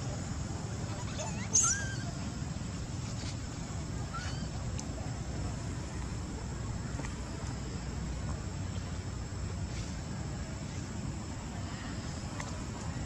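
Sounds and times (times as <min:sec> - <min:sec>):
faint high insect drone: 0:00.0 - 0:13.0.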